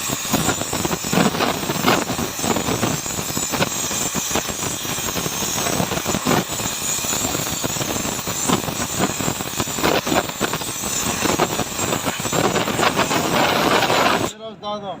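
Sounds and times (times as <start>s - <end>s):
welding arc crackling hiss: 0.0s - 14.3s
welding arc pops: 0.0s - 14.3s.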